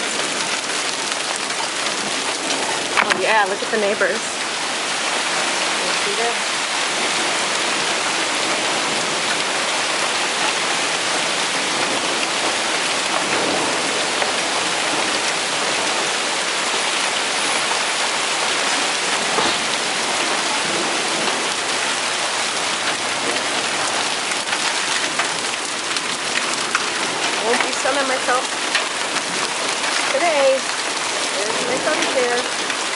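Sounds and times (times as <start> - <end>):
hailstones striking: 0.0 - 32.9
heavy rain hiss: 0.0 - 32.9.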